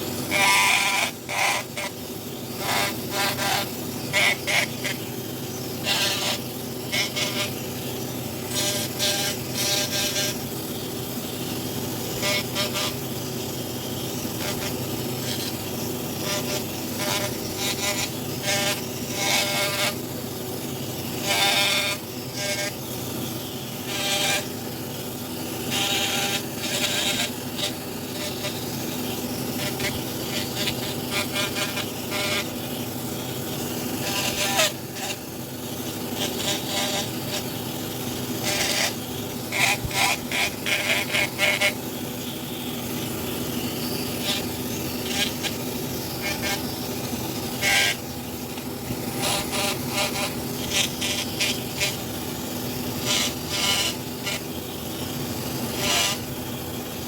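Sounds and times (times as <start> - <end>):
power carving tool whining: 0.0 - 57.0
scratchy bursts of bit on wood: 0.2 - 57.0.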